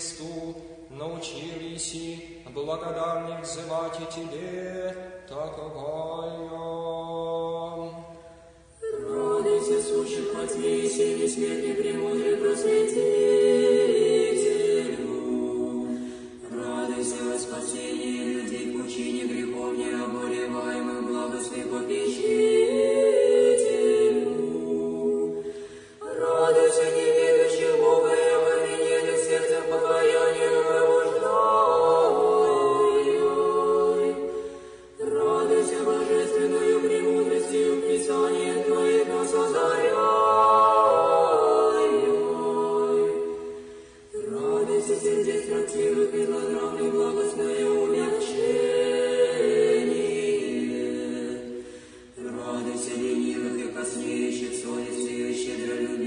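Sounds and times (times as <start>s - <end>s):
choir chanting: 8.8s - 56.0s.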